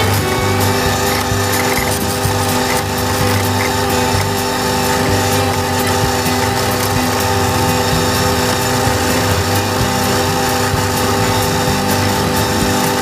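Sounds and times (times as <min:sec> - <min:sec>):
flail mower cutting grass: 0:00.0 - 0:13.0
tractor engine running: 0:00.0 - 0:13.0.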